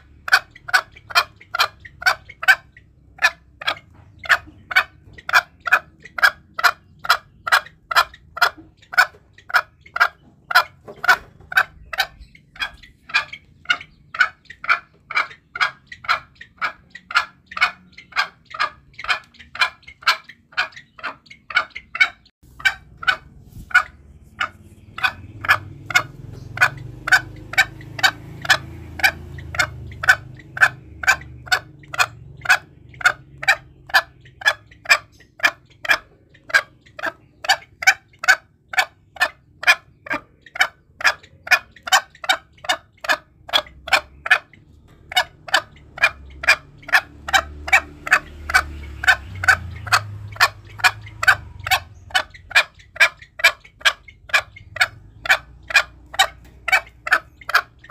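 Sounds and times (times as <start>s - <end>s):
junglefowl clucking: 0.0s - 57.9s
low background rumble: 0.0s - 57.9s.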